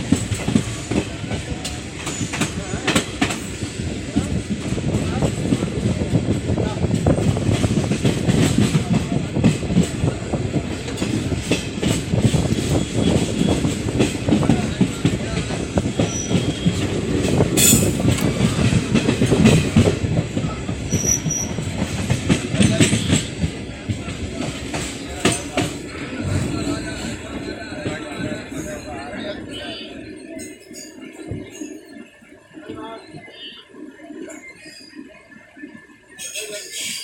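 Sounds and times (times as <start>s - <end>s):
train wheels clattering on rails: 0.0s - 32.2s.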